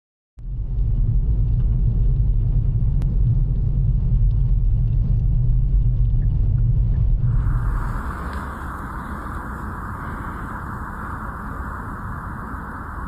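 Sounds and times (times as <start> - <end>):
loud low rumble: 0.4 - 13.0.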